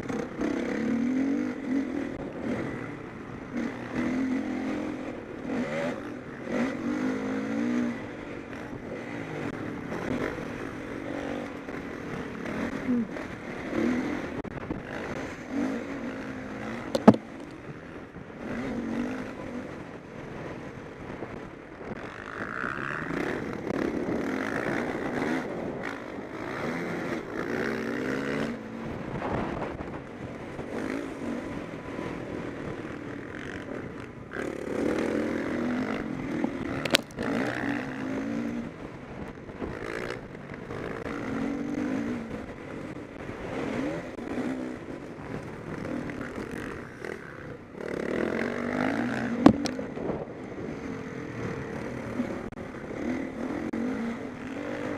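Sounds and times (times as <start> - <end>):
motocross engines revving: 0.0 - 54.9.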